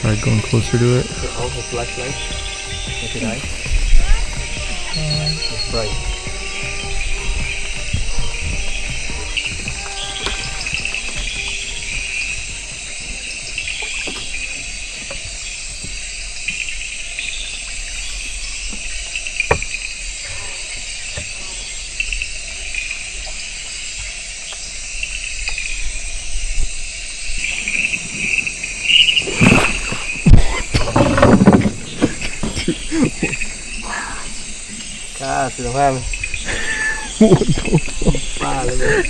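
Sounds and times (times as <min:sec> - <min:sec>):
insect chorus trilling: 0:00.0 - 0:39.0.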